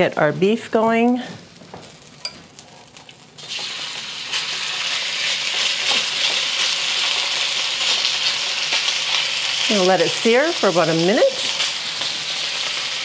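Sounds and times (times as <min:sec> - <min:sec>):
beef sizzling in a wok: 0:01.4 - 0:13.0.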